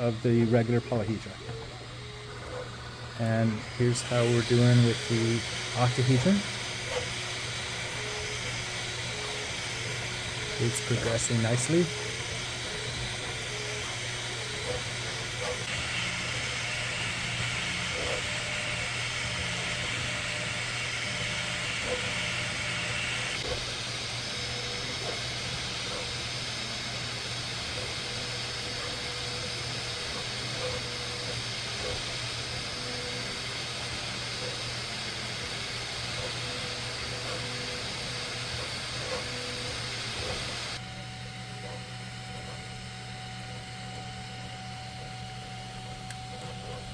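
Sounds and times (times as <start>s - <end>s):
fan hiss and hum: 0.0s - 46.9s
stepper motors whirring: 0.0s - 46.9s.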